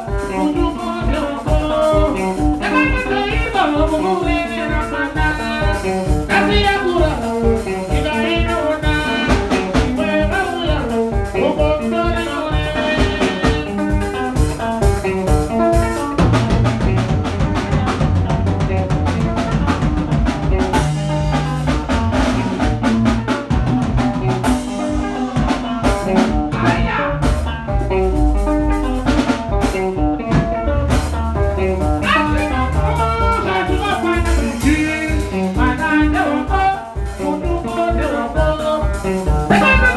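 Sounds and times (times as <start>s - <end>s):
drum kit: 0.0s - 39.9s
electric bass: 0.0s - 39.9s
picked electric guitar lines: 0.0s - 39.9s.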